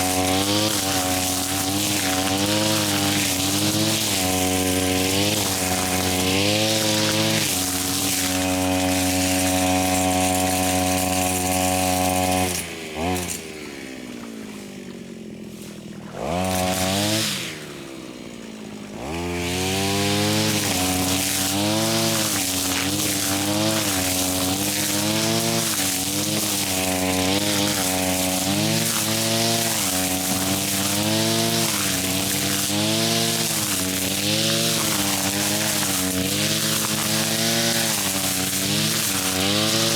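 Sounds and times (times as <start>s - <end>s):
grass cutter engine: 0.0s - 39.9s.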